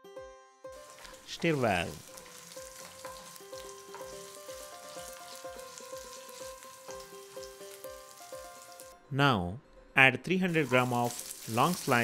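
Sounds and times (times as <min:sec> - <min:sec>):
soft background music: 0:00.0 - 0:12.0
food sizzling in hot oil: 0:00.7 - 0:09.0, 0:10.5 - 0:12.0.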